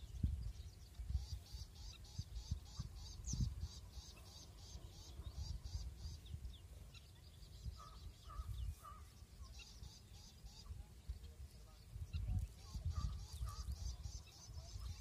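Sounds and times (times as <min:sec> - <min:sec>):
birds chirping: 0:00.0 - 0:15.0
short lower bird calls: 0:00.0 - 0:15.0
wind rumble on microphone: 0:00.0 - 0:15.0.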